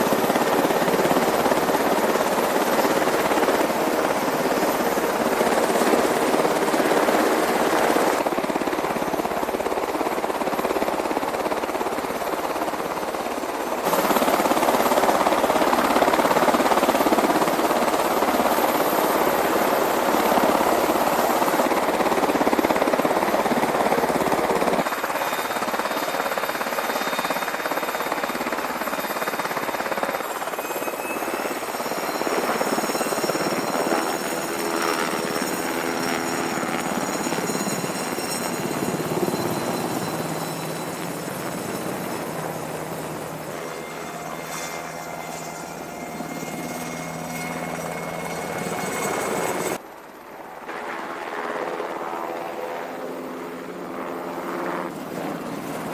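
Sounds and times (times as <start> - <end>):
helicopter flying by: 0.0 - 55.9
helicopter rotor chop: 0.0 - 55.9.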